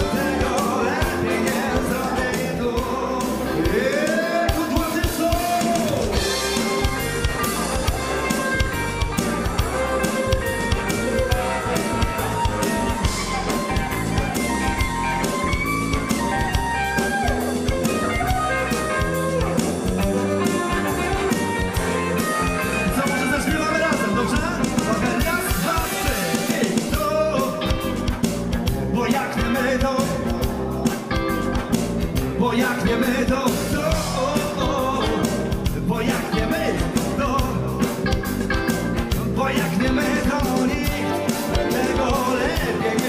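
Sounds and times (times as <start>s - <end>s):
drum kit steady beat: 0.0s - 43.0s
electric guitar: 0.0s - 43.0s.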